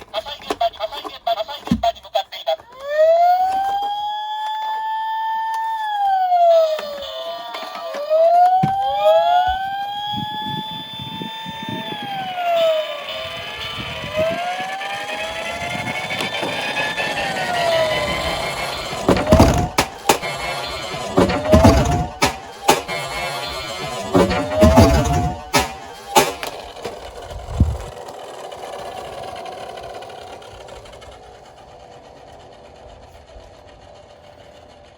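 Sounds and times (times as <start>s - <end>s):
toy sirens wailing: 0.0s - 33.9s
toy car wheels rolling: 0.0s - 34.9s.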